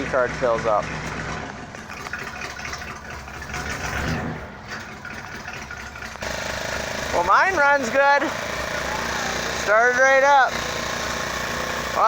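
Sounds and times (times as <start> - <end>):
engine starting and running: 0.0 - 12.0.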